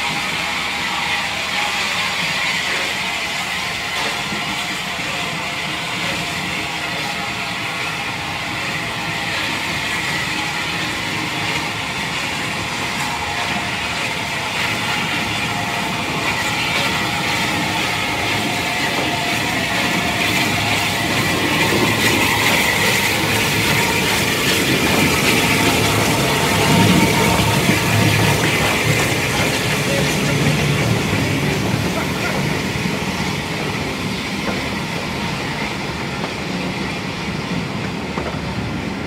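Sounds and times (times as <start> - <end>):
locomotive wheels rumbling: 0.0 - 39.0
steam hissing from locomotive: 0.0 - 39.0.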